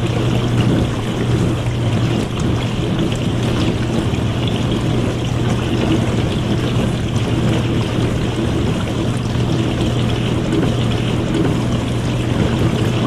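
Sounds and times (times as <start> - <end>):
dishwasher motor hum: 0.0 - 13.0
water spraying in dishwasher: 0.0 - 13.0.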